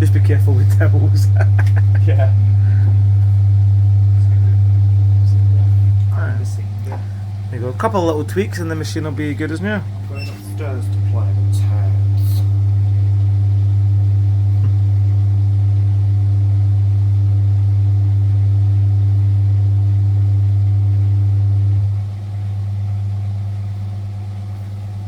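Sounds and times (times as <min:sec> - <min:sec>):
washing machine motor humming: 0:00.0 - 0:25.0.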